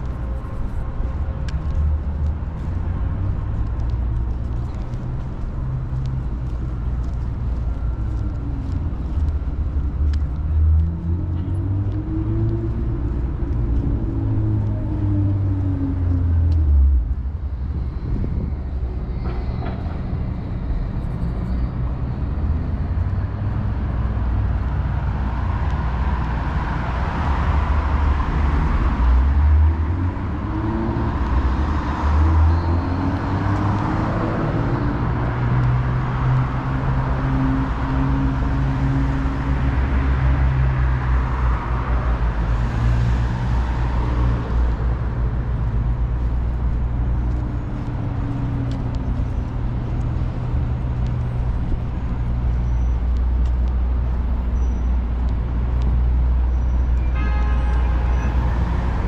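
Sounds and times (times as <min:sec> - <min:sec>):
city traffic engines rumbling: 0:00.0 - 0:59.0.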